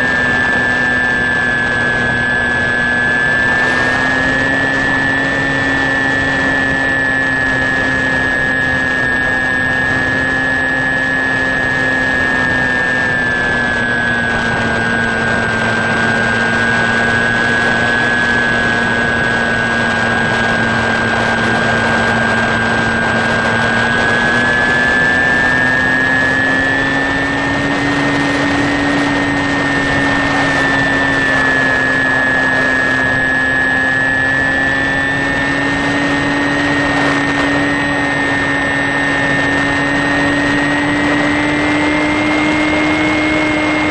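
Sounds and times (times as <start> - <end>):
electric motor and propeller whining: 0.0 - 43.9.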